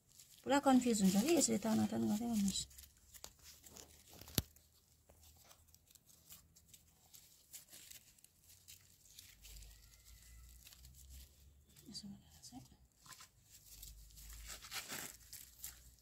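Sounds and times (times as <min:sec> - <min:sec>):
dry husks rustling and crackling: 0:00.0 - 0:16.0.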